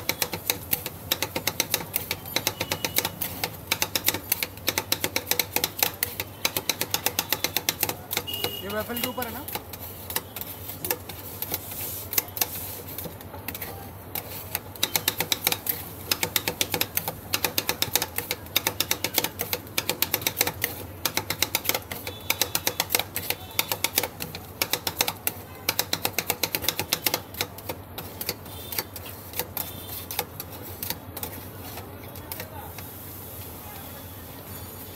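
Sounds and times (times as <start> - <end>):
metal spatula clacking on steel plate: 0.0 - 32.8.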